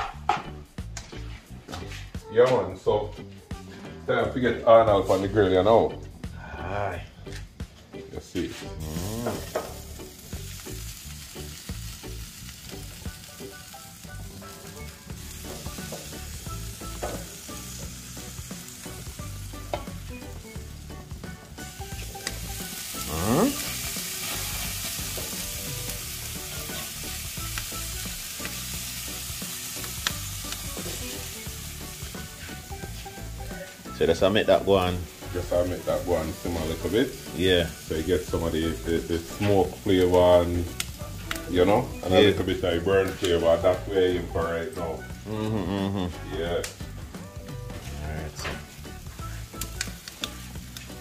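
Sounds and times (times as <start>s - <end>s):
food sizzling on grill: 0.0s - 2.2s, 3.2s - 51.0s.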